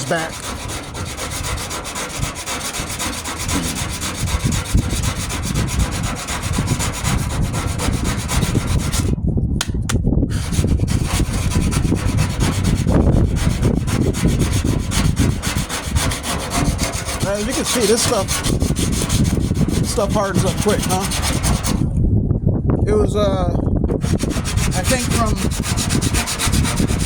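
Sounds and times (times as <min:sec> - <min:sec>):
hand rubbing body filler: 0:00.0 - 0:09.2, 0:10.3 - 0:21.8, 0:24.0 - 0:27.0.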